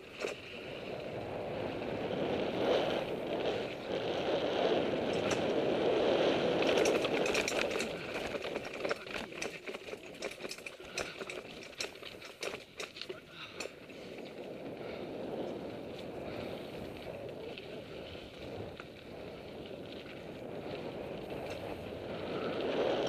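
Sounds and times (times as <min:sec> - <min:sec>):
bike rattling over rocks: 0:00.0 - 0:23.0
bike tyres rolling on dirt: 0:00.0 - 0:23.0.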